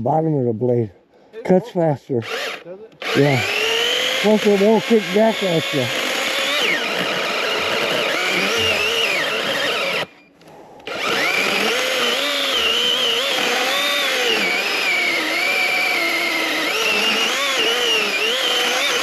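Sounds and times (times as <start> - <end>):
chainsaw cutting wood: 2.2 - 10.2, 10.8 - 19.0.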